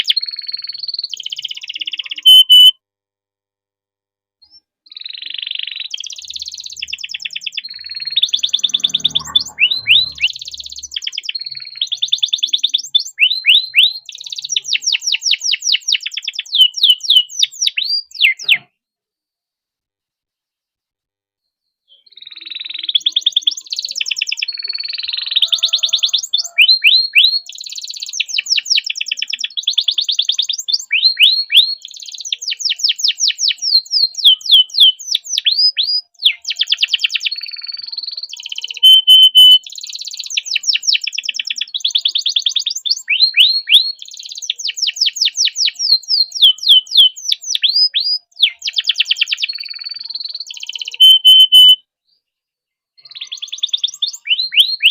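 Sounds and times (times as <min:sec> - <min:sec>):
canary singing trills: 0:00.0 - 0:02.7, 0:04.5 - 0:18.7, 0:21.9 - 0:51.8, 0:53.0 - 0:54.9.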